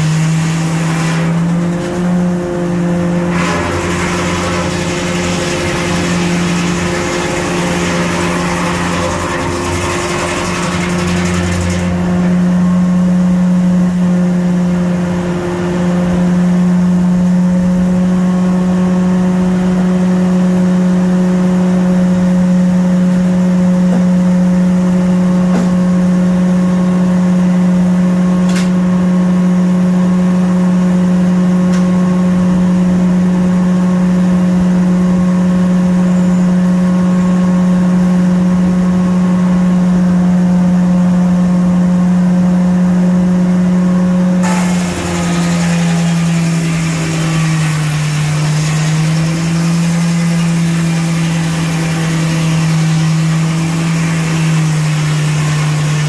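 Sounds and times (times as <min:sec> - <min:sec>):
circular saw humming: 0:00.0 - 0:40.9, 0:44.3 - 0:56.0.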